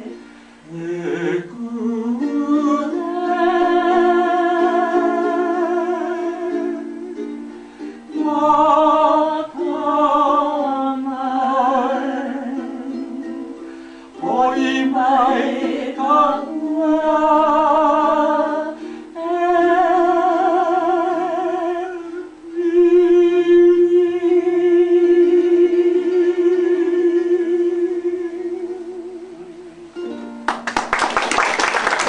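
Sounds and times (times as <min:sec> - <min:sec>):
person singing with vibrato: 0:00.0 - 0:30.2
plucked string accompaniment: 0:01.6 - 0:22.5, 0:23.3 - 0:30.9.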